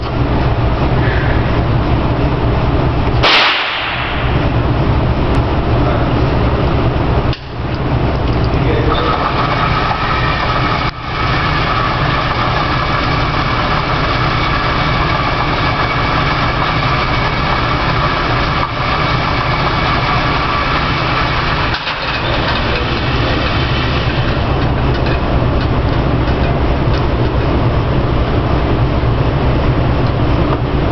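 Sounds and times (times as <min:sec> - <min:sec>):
vehicle engine running: 0:04.2 - 0:30.9.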